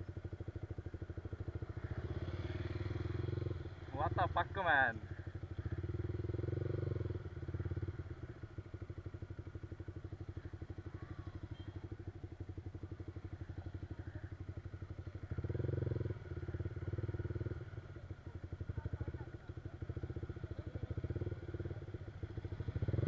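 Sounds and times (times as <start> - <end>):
motorcycle engine at low revs: 0.0 - 23.0.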